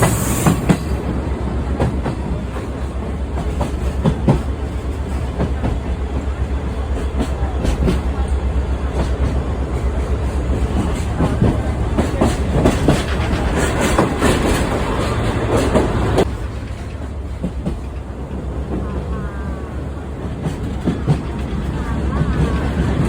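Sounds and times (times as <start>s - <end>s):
train carriages rattling: 0.0s - 23.0s
train low rumble: 0.0s - 23.0s.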